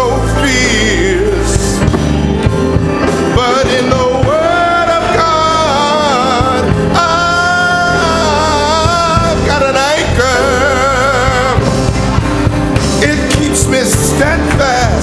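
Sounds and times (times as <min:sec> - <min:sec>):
gospel singing with accompaniment: 0:00.0 - 0:15.0.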